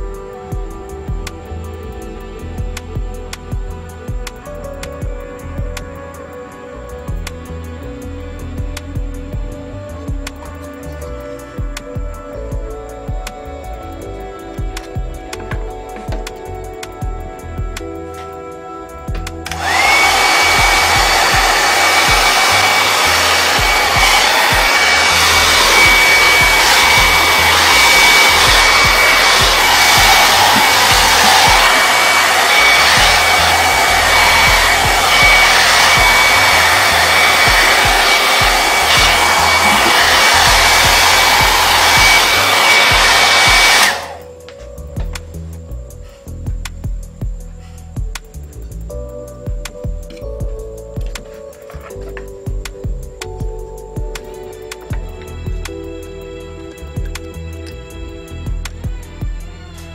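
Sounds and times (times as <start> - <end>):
hair dryer blowing: 0.0 - 45.2, 50.3 - 59.4.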